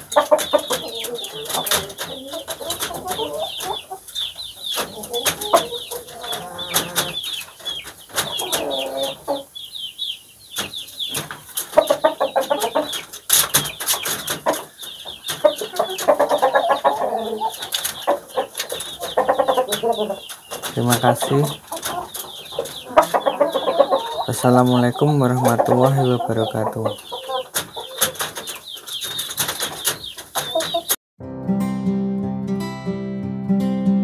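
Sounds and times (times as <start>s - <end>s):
chickens clucking and calling: 0.0s - 31.0s.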